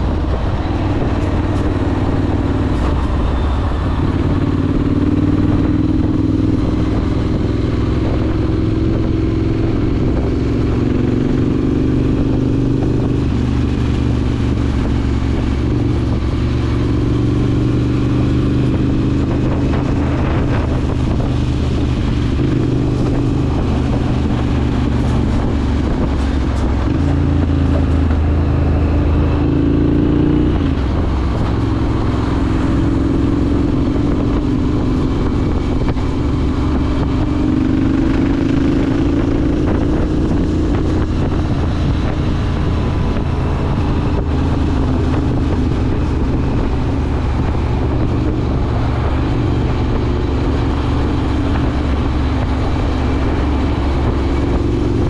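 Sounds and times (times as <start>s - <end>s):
motorcycle engine on light throttle: 0.0s - 55.0s.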